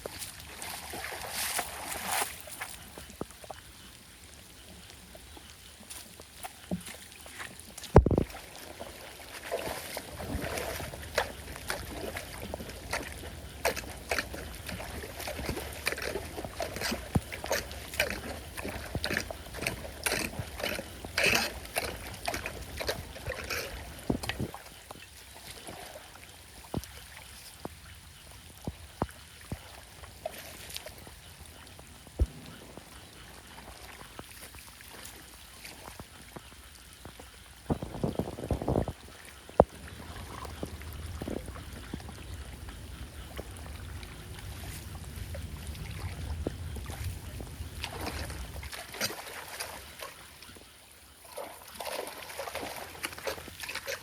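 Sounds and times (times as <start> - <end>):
splashing in shallow water: 0.0 - 54.0.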